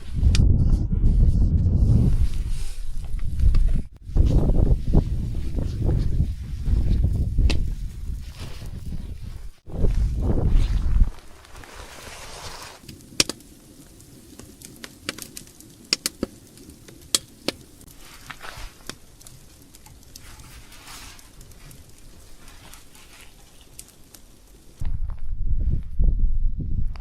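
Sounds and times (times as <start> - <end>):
firewood crackling in a stove: 1.8 - 25.2.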